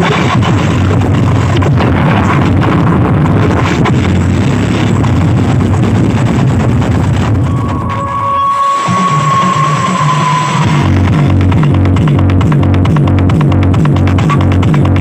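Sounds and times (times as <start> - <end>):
distorted bass-heavy dance music: 0.0 - 15.0.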